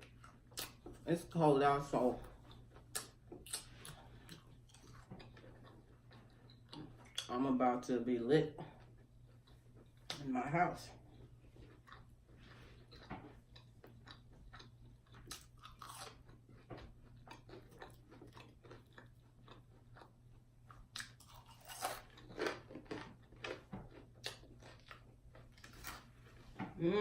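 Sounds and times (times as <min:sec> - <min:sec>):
chewing crunchy fried food: 0:00.0 - 0:07.5, 0:08.1 - 0:26.5.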